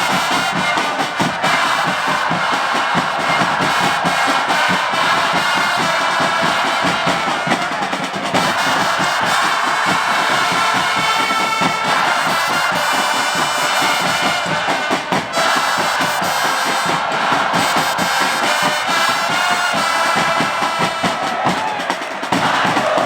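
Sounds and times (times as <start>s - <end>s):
crowd chanting: 0.0s - 23.0s
held brass notes: 0.0s - 23.0s
steady drumbeat: 0.0s - 23.0s.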